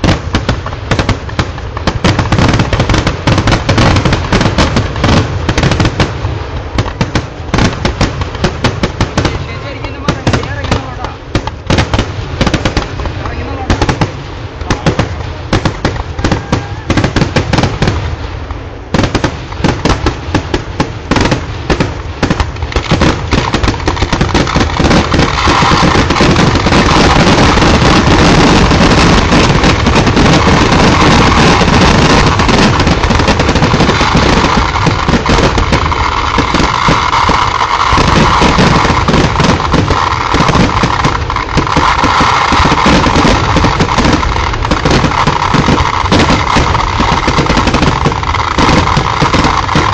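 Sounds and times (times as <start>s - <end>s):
firecracker bangs: 0.0s - 49.9s.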